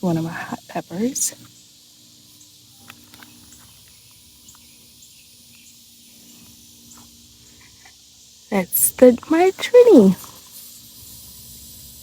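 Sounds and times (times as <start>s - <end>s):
insects hissing: 0.0s - 12.0s.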